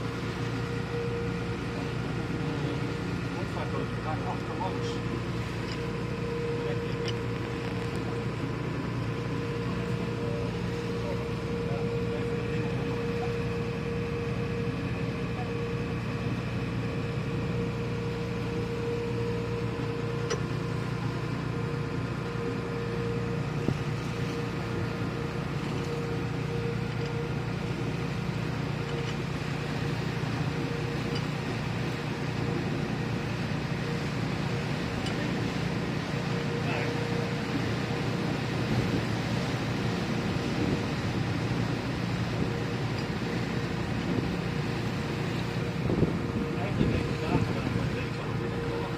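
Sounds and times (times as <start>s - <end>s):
boat engine droning: 0.0s - 48.9s.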